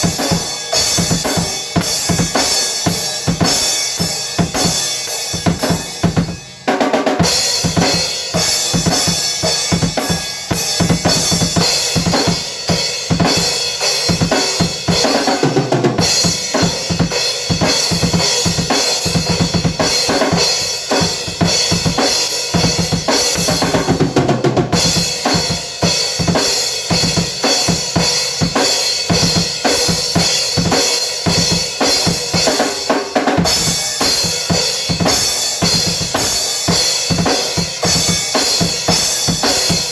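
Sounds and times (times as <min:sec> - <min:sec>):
drum kit playing: 0:00.0 - 0:39.9.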